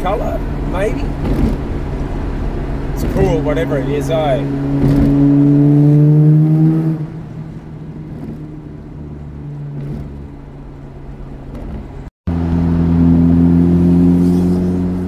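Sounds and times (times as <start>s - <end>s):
rotary engine driving: 0.0s - 15.0s.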